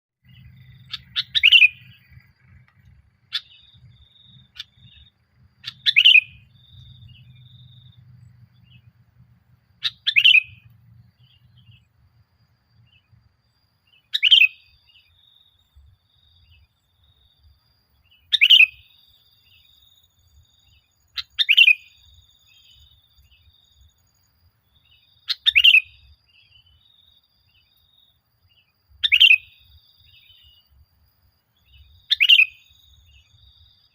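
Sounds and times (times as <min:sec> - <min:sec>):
bird chirping: 0:00.2 - 0:33.9.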